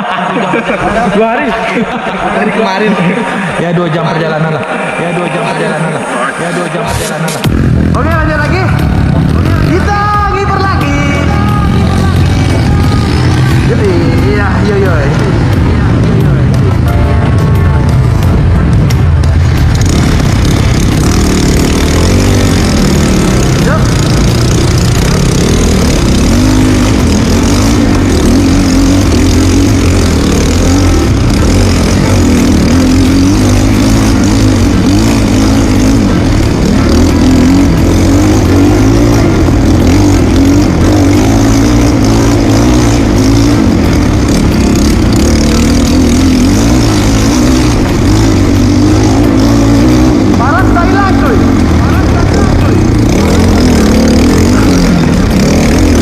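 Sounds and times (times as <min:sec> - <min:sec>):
motorcycle engine running loudly: 0:00.0 - 0:56.0.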